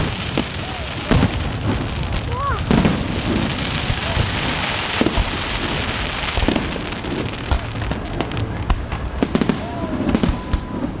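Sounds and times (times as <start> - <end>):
fireworks cracking and popping: 0.0 - 11.0
steady noisy rush: 0.0 - 11.0.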